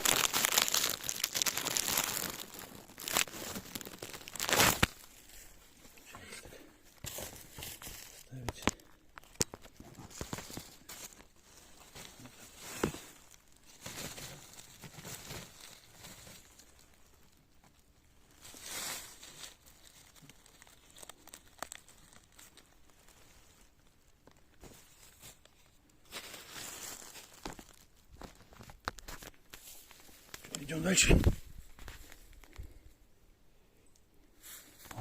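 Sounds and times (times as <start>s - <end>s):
fungus rustling and tearing: 0.0s - 5.8s, 6.9s - 32.8s.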